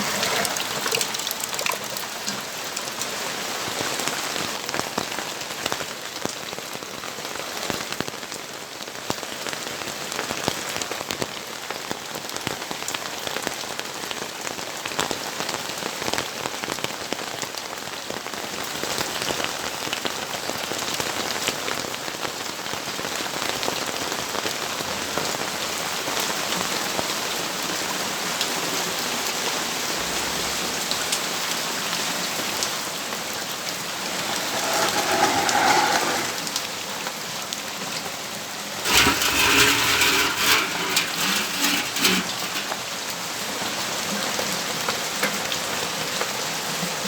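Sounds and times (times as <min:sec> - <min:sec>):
rain pattering on hard surfaces: 0:00.0 - 0:34.6, 0:37.9 - 0:47.0.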